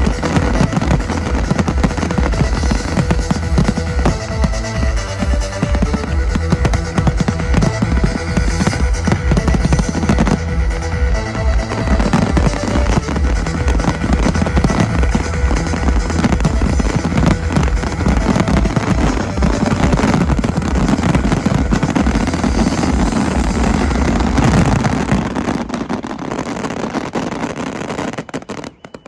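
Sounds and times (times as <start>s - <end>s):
deep fireworks thuds: 0.0s - 29.0s
fireworks bangs and crackling: 0.0s - 29.0s.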